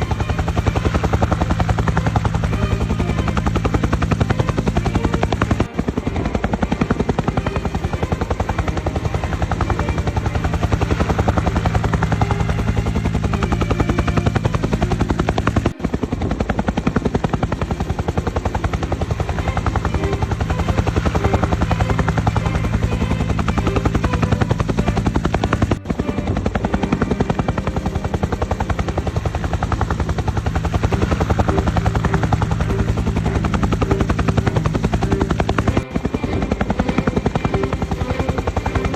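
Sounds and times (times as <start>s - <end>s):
helicopter rotor blades chopping: 0.0s - 38.9s
turbine drone: 0.0s - 38.9s.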